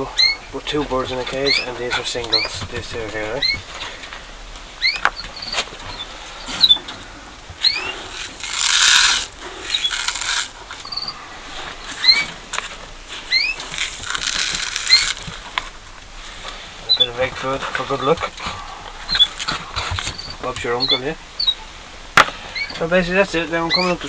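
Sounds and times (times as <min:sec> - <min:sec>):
birds chirping: 0:00.0 - 0:24.0
rustling noise: 0:00.6 - 0:24.0.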